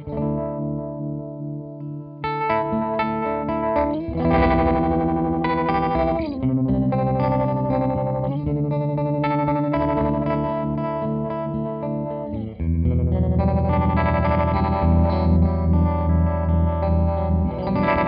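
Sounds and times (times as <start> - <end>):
electric guitar chords with tremolo: 0.0 - 18.0.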